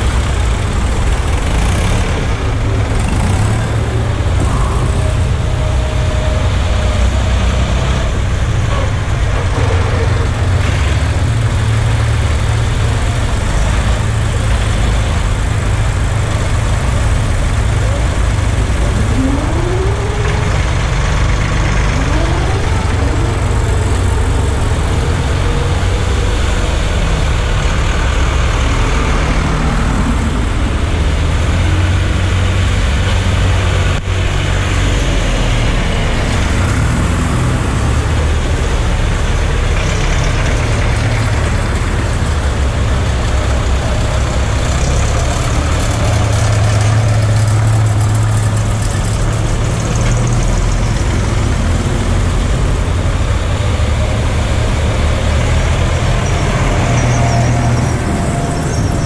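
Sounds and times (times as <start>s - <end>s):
engine revving: 0.0s - 59.0s
tractor engines running: 0.0s - 59.0s.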